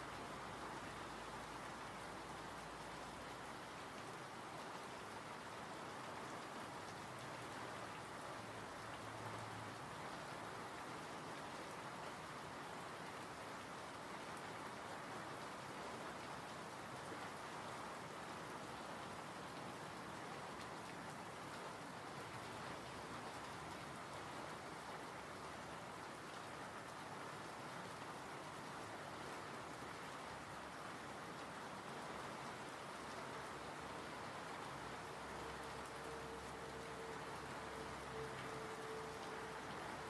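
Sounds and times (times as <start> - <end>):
rain pattering: 0.0 - 40.0.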